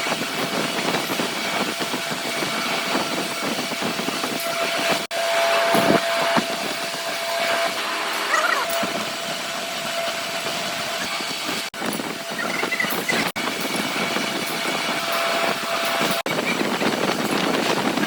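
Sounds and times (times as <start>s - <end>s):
heavy machinery running: 0.0s - 18.0s
steady machine whine: 0.0s - 18.0s.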